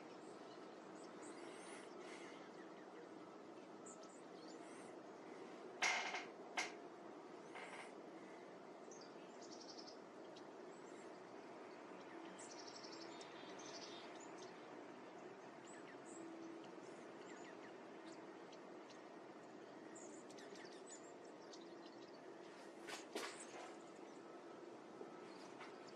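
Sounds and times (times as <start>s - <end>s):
small birds chirping: 0.0s - 5.7s, 7.2s - 25.9s.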